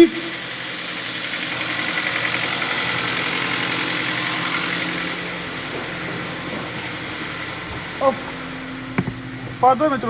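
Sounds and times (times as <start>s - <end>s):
petrol engine running with clatter: 0.0s - 10.0s.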